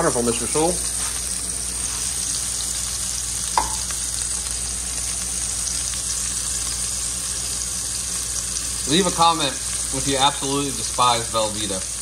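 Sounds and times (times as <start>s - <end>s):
fish frying in hot grease: 0.0s - 12.0s.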